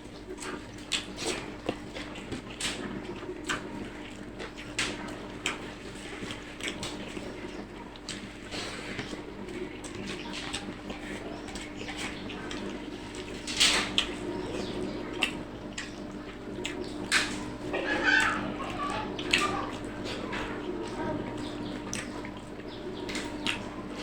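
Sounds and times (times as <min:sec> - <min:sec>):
wet chewing and smacking: 0:00.0 - 0:24.0.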